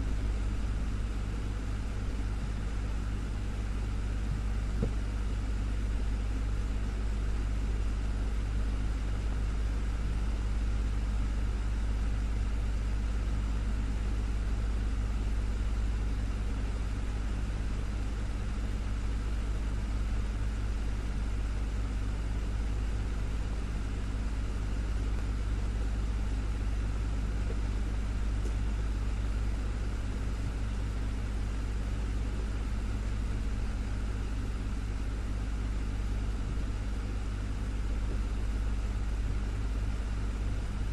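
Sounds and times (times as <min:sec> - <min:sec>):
desktop fan running: 0:00.0 - 0:40.9.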